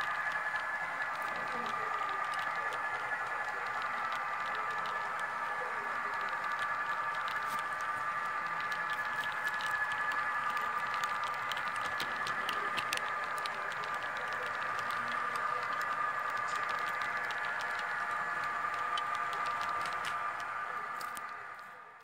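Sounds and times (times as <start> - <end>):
model train wheels clicking: 0.0 - 22.0
steady high whine: 0.0 - 22.0.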